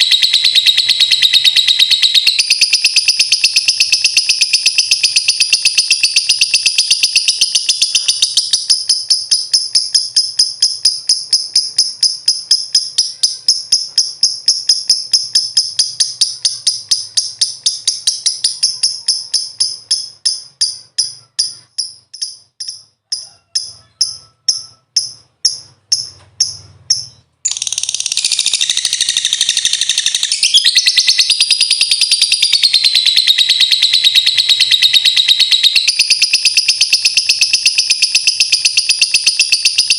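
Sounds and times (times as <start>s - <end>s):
bird high chattering: 0.0s - 39.9s
bird rapid high chirps: 0.0s - 39.9s.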